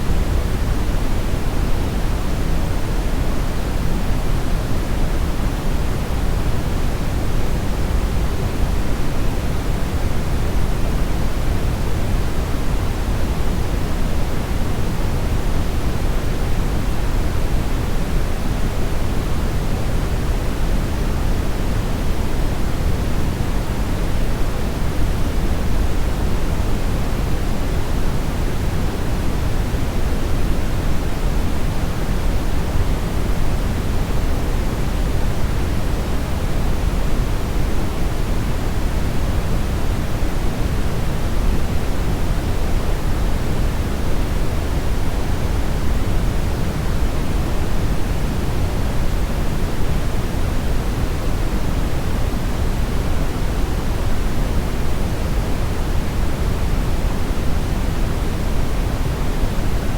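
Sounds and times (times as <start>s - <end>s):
steady brown noise hiss: 0.0s - 59.9s.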